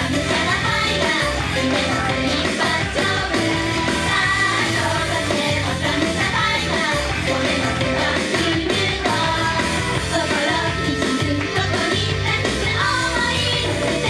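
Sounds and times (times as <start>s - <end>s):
loud backing track: 0.0s - 14.0s
women singing pop song: 0.0s - 14.0s.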